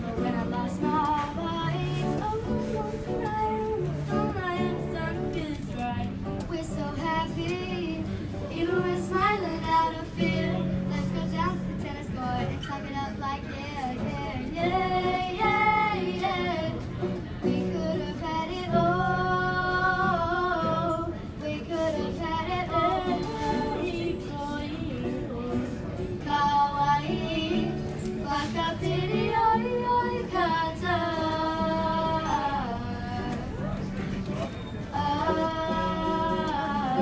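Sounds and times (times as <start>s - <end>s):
girls singing: 0.0s - 34.0s, 34.8s - 37.0s
acoustic guitar: 0.0s - 37.0s.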